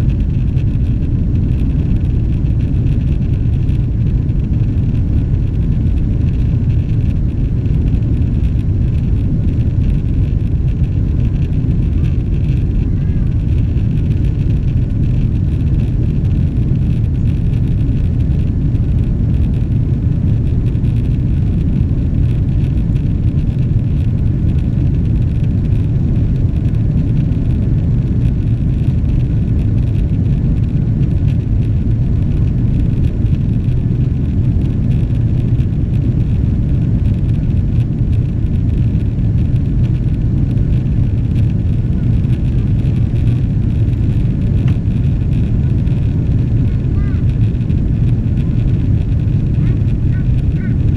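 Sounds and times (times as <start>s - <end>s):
jet engine rumble in aircraft cabin: 0.0s - 50.9s.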